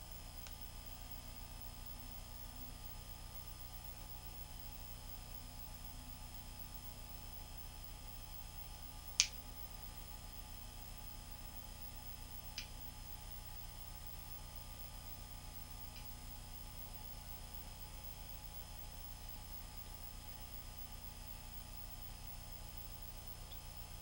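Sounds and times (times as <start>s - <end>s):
mains hum and hiss: 0.0s - 24.0s.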